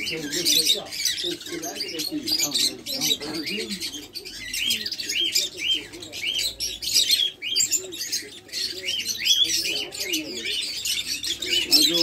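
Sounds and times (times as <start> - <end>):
caged birds chirping: 0.0 - 12.0
repeating bird chirp: 0.0 - 12.0.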